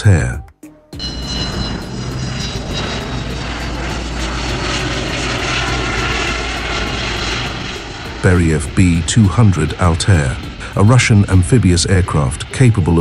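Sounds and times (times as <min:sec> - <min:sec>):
thin high whine: 0:00.7 - 0:13.0
jet aircraft flying past: 0:00.9 - 0:13.0.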